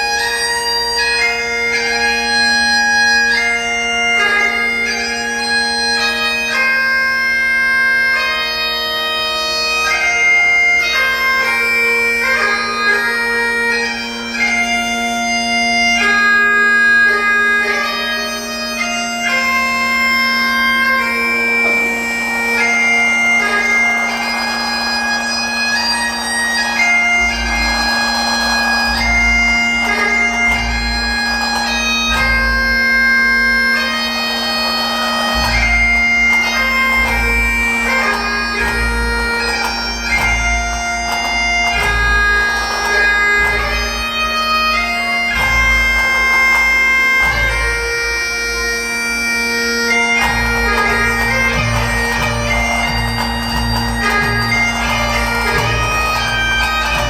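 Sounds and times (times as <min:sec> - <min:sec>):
bagpipes playing a slow lament: 0:00.0 - 0:57.0.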